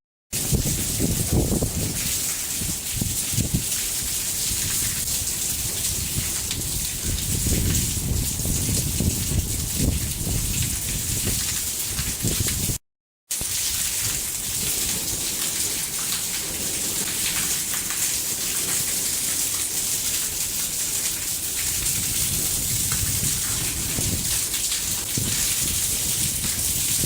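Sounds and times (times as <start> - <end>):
heavy rain pouring: 0.4 - 27.0.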